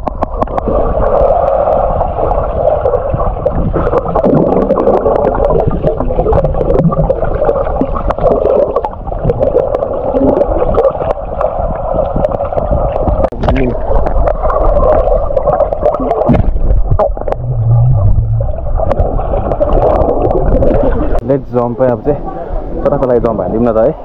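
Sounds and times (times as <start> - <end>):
muffled underwater churning: 0.0 - 22.8.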